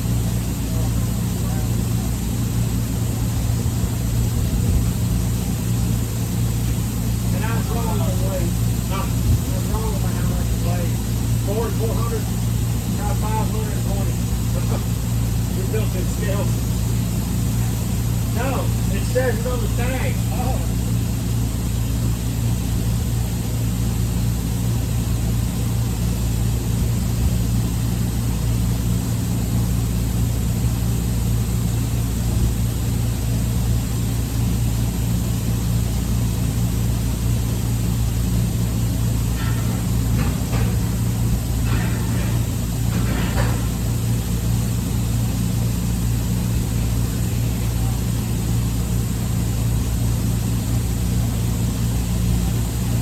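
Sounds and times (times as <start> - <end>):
low hum of running machinery: 0.0 - 53.0.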